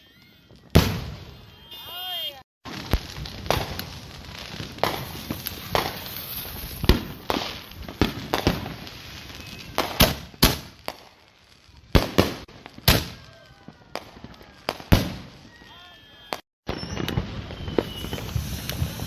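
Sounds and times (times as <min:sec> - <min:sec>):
firecrackers crackling: 0:00.0 - 0:19.0
firework bangs: 0:00.3 - 0:19.0.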